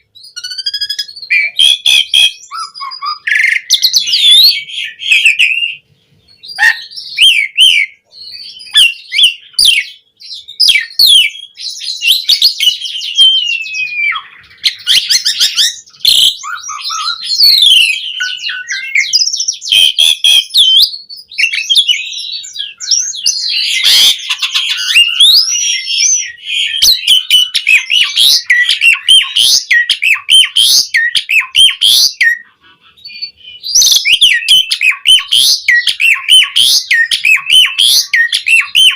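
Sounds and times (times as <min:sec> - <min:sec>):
starling singing whistles and squawks: 0:00.0 - 0:38.9.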